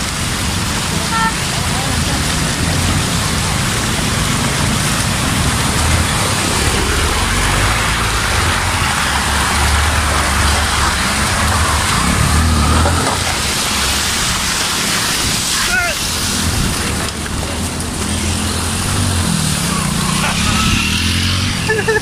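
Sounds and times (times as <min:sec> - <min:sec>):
motorcycle engines running: 0:00.0 - 0:22.0
stream rushing over stones: 0:00.0 - 0:22.0.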